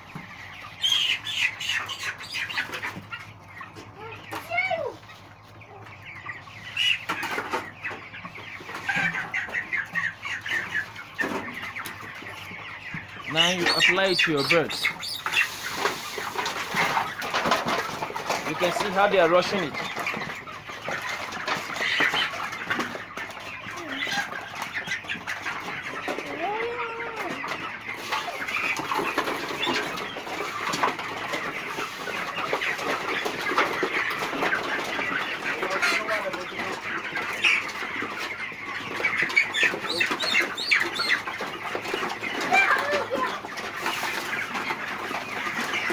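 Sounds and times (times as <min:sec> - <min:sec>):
chicks cheeping and clucking: 0:00.0 - 0:45.9.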